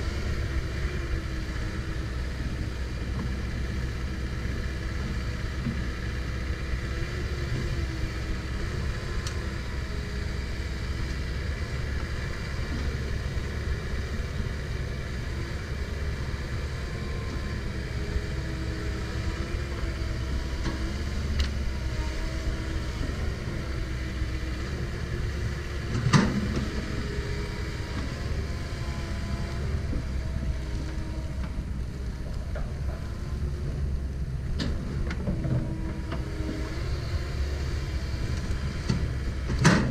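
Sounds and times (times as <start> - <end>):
excavator diesel engine rumbling: 0.0 - 39.9.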